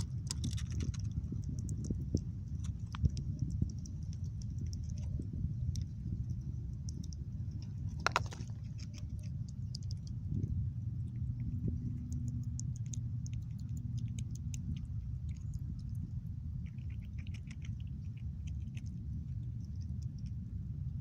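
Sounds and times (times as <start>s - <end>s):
squirrel nibbling: 0.0s - 21.0s
steady low rumble: 0.0s - 21.0s.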